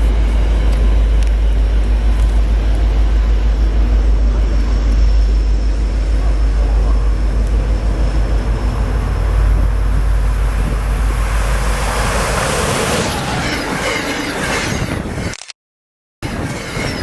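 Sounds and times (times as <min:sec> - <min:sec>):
passenger train rushing past: 0:00.0 - 0:15.2
wheel and rail noise: 0:00.0 - 0:15.4, 0:16.2 - 0:17.0.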